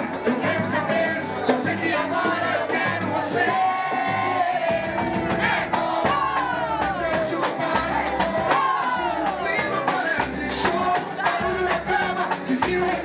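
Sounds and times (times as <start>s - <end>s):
band playing: 0.0s - 13.0s
voices singing: 0.0s - 13.0s.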